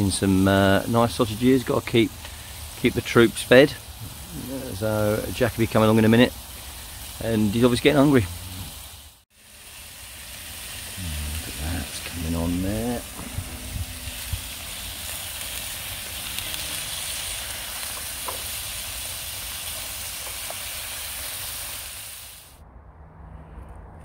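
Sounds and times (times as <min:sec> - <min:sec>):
sausages sizzling in a frying pan: 0:00.0 - 0:22.6.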